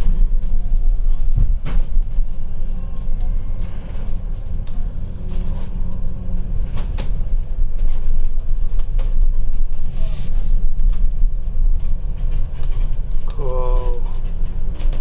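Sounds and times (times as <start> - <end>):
bus body knocks and rattles: 0.0 - 15.0
bus engine and road rumble: 0.0 - 15.0.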